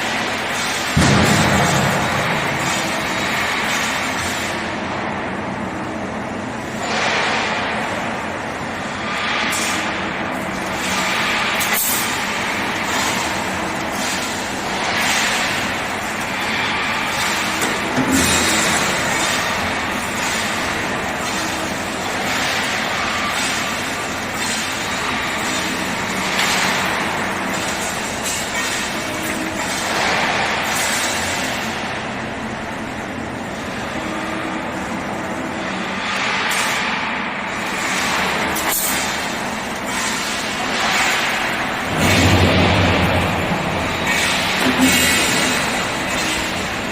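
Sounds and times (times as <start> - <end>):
welding machine running: 0.0 - 46.9.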